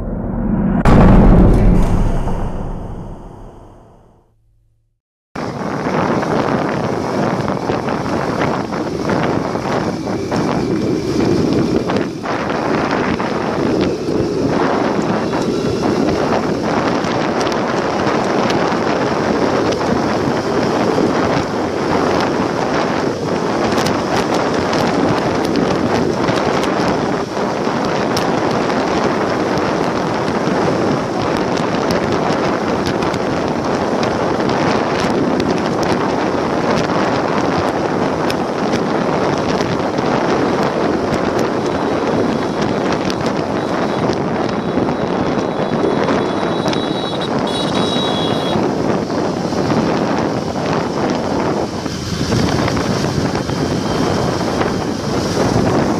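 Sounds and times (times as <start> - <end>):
wind buffeting microphone: 0.0 - 3.8, 5.4 - 55.9
road noise: 0.0 - 4.1, 5.4 - 55.9
vehicle running noise: 0.0 - 4.1, 5.5 - 55.9.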